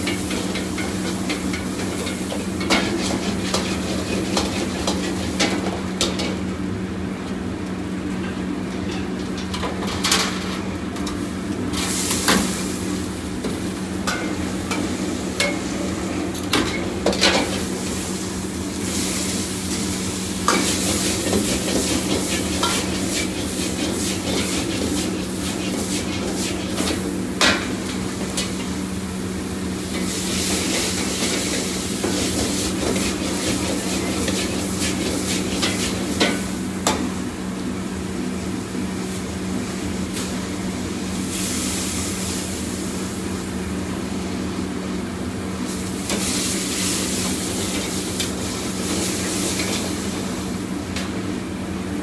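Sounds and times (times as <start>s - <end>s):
food sizzling in a wok: 0.0s - 6.1s, 11.6s - 37.5s, 38.3s - 51.4s
steady burner roar: 0.0s - 52.0s.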